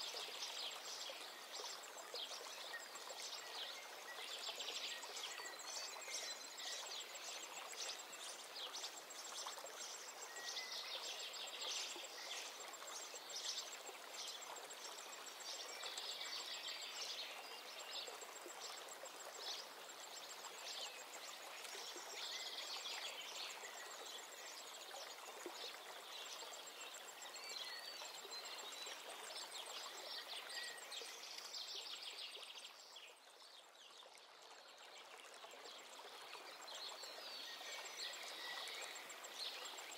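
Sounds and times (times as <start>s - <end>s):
stream rushing hiss: 0.0s - 33.1s.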